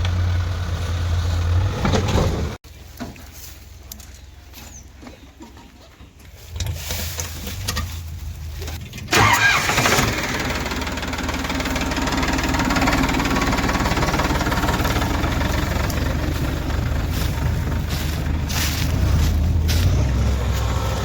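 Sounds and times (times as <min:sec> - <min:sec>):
diesel engine starting and running: 0:00.0 - 0:03.0, 0:06.3 - 0:21.0.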